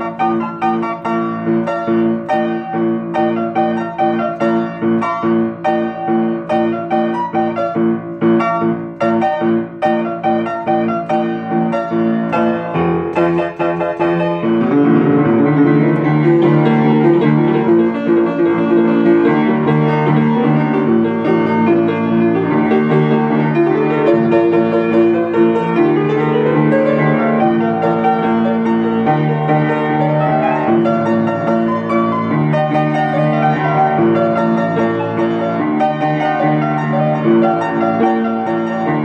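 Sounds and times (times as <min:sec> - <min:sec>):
upright piano playing: 0:00.0 - 0:39.0.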